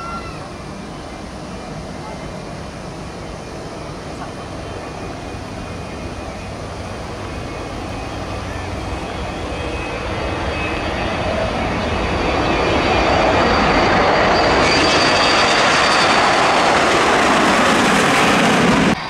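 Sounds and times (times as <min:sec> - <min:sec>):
jet engines roaring at takeoff: 0:00.0 - 0:19.0
thin high engine whine: 0:00.0 - 0:19.0.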